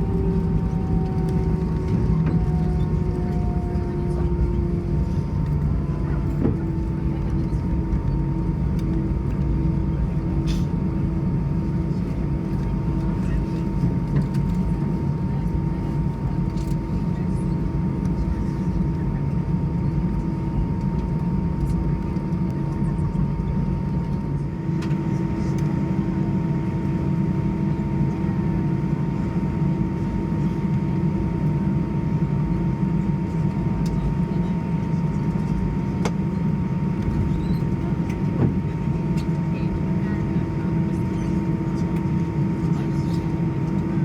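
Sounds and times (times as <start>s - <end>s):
jet engines idling rumble: 0.0s - 44.0s.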